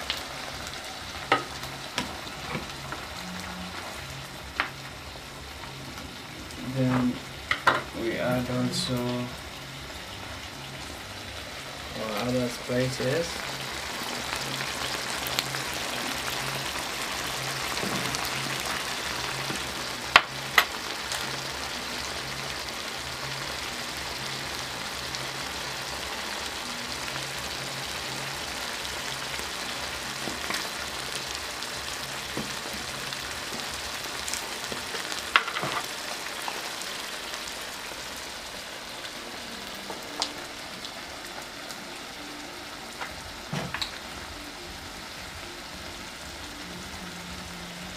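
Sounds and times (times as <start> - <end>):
stew sizzling in frying pan: 0.0 - 47.9.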